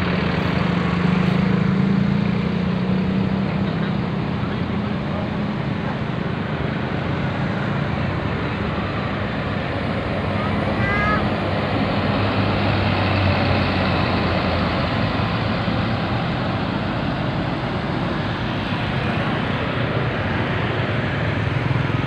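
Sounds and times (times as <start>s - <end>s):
motorcycle passing: 0.0s - 5.6s, 6.4s - 22.0s
car passing: 0.0s - 22.0s
coach engine driving past: 0.0s - 22.0s
tyres on road: 0.0s - 22.0s.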